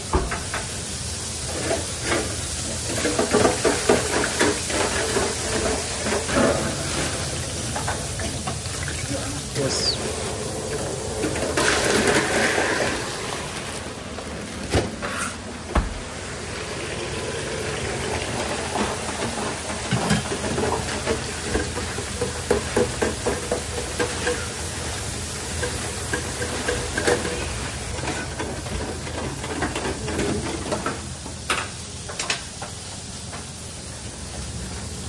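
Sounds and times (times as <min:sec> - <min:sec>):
deep fryers bubbling: 0:00.0 - 0:35.0
steady hiss: 0:00.0 - 0:35.0
utensils and baskets clattering: 0:01.4 - 0:15.7, 0:18.2 - 0:32.5.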